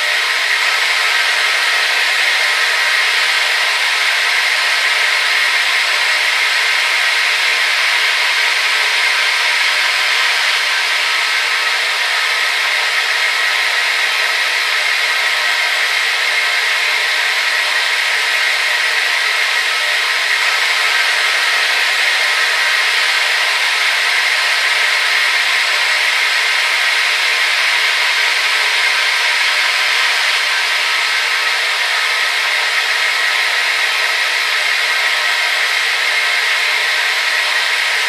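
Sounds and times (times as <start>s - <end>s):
hair dryer running: 0.0s - 38.0s.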